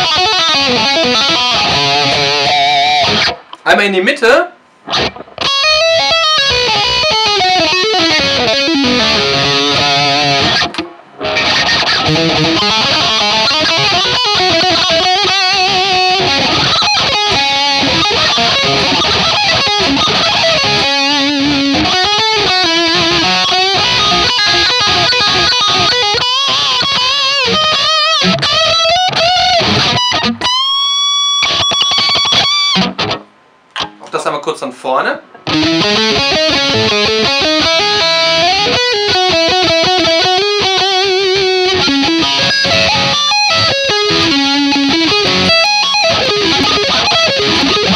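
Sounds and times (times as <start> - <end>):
distorted electric guitar lead: 0.0 - 3.7, 4.8 - 34.1, 35.3 - 47.9.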